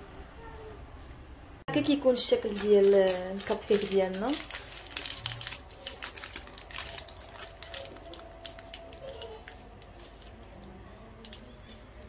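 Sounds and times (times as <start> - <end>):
paper cupcake liner crinkling: 2.1 - 12.0.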